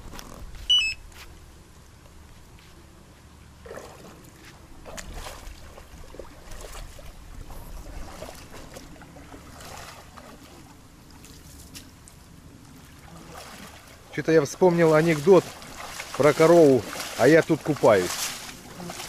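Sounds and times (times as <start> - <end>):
water splashing in river: 3.6 - 19.0.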